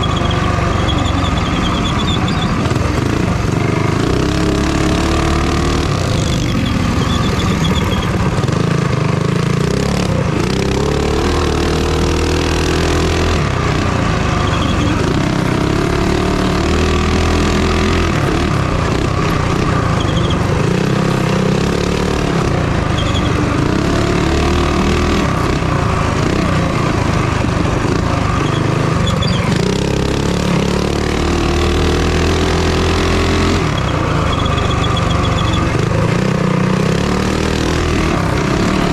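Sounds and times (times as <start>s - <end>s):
minibike engine racing: 0.0s - 38.9s.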